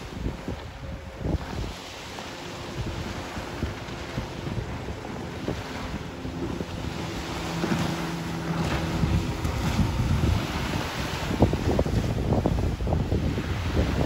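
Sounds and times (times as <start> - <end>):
outboard motor running: 0.0 - 14.0
wind buffeting microphone: 0.0 - 14.0.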